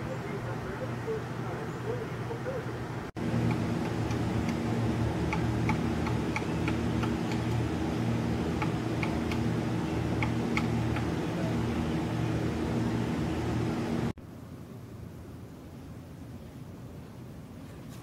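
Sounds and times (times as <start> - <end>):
steady low motor hum: 0.0 - 18.0.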